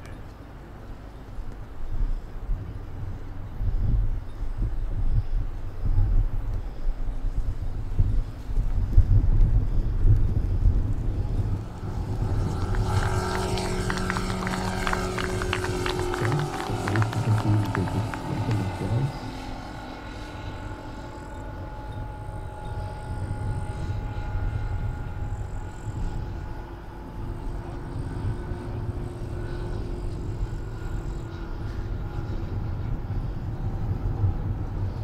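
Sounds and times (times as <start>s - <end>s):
model plane engine drone: 0.0s - 35.0s
low rumble: 3.0s - 35.0s.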